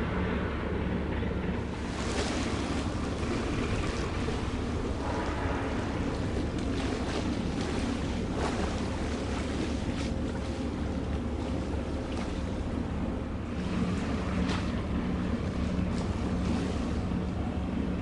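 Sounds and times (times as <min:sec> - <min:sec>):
low rumble: 0:00.0 - 0:18.0
wind buffeting microphone: 0:01.0 - 0:18.0
water washing: 0:01.6 - 0:18.0.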